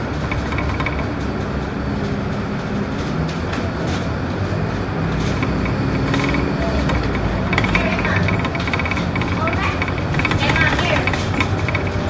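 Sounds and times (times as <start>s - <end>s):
bus interior rattles: 0.0s - 12.0s
diesel engine hum: 0.0s - 12.0s
road noise: 0.0s - 12.0s.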